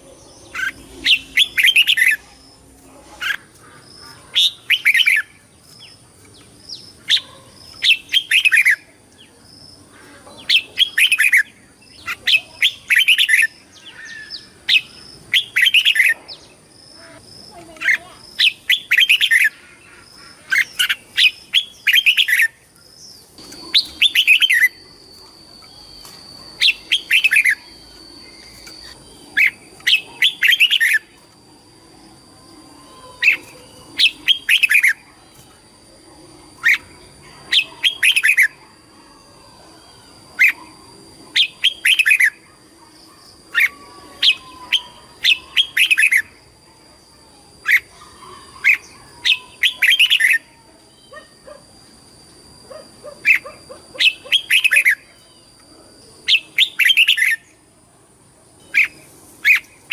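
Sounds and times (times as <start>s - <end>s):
bulbul singing: 0.0s - 35.6s, 36.4s - 46.6s, 47.6s - 51.6s, 52.6s - 57.6s.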